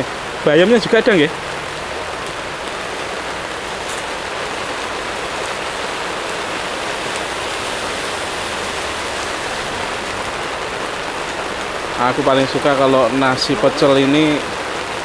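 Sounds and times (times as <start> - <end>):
heavy rain on a tent roof: 0.0 - 15.0.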